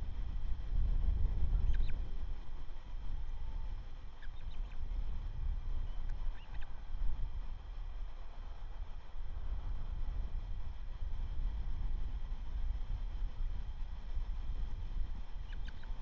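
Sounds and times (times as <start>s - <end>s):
fluctuating low rumble: 0.0s - 16.0s.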